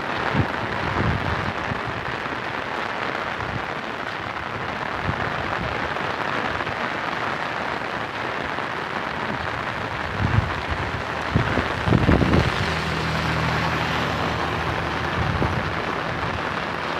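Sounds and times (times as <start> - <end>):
heavy rain on wet road: 0.0 - 16.9.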